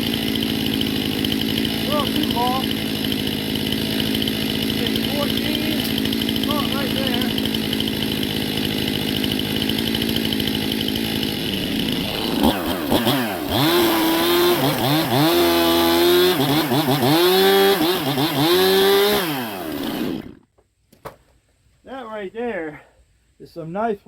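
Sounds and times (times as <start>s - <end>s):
chainsaw cutting wood: 0.0s - 21.2s.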